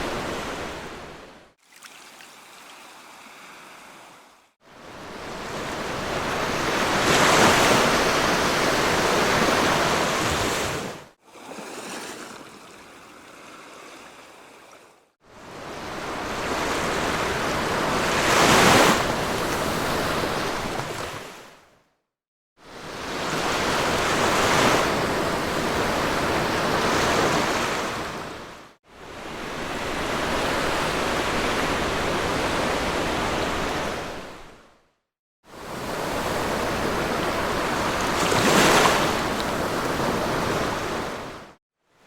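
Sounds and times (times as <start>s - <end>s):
sea waves breaking on beach: 0.0s - 21.6s, 22.7s - 34.6s, 35.5s - 41.6s.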